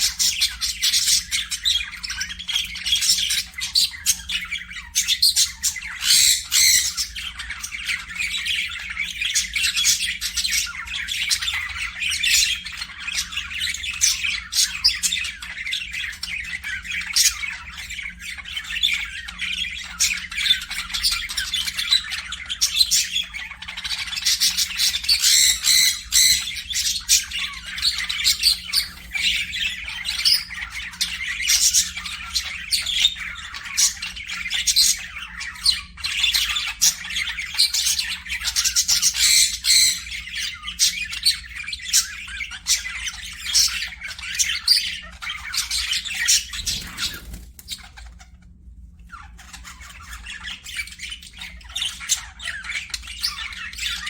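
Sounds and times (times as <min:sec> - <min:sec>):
parakeets chattering and squawking: 0:00.0 - 0:54.0.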